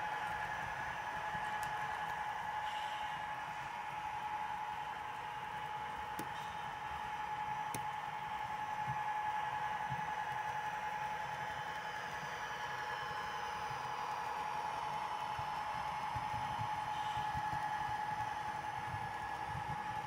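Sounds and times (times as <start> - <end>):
model train humming: 0.0 - 20.0.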